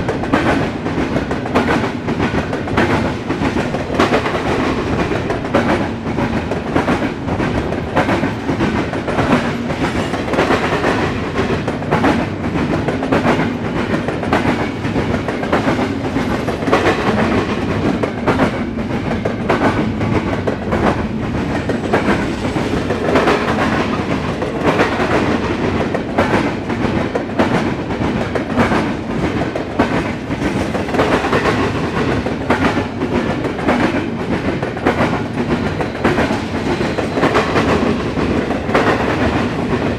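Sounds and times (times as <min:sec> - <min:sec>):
freight train wheels rumbling on rails: 0:00.0 - 0:39.9
train wheel knocks: 0:00.0 - 0:39.9.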